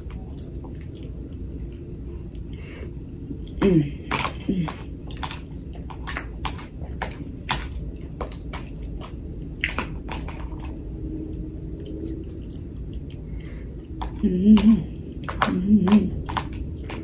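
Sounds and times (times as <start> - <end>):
wet mouth clicks and smacks: 0.0 - 2.7, 3.4 - 11.0, 11.8 - 17.0
person chewing food: 0.0 - 17.0.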